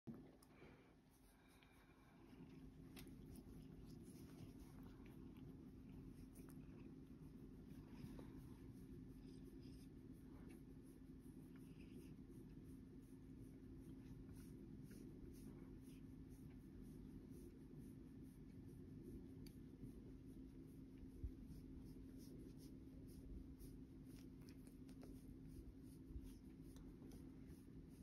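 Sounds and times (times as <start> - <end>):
low steady hum: 0.1 - 28.0.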